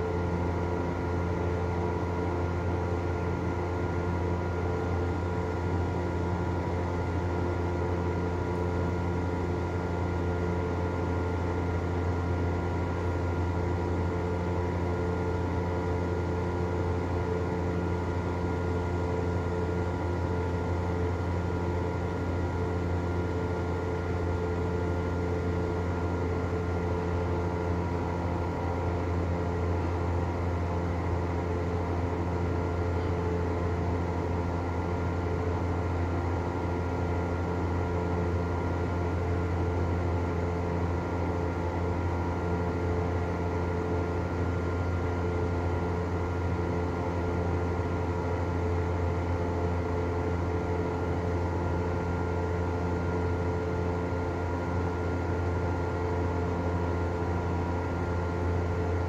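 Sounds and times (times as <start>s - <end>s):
exhaust fan running: 0.0s - 59.0s.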